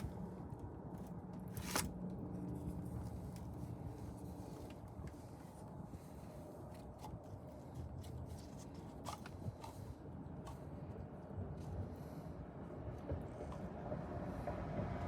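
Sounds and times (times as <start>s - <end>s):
faint clicks and handling noises: 0.0s - 14.1s.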